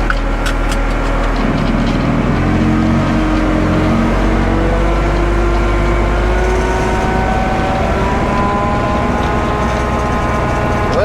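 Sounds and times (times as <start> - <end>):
heavy engine rumbling: 0.0 - 11.0.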